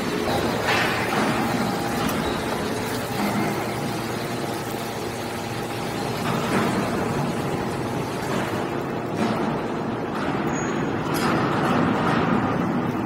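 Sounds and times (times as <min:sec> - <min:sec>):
hydraulic baler droning: 0:00.0 - 0:11.2.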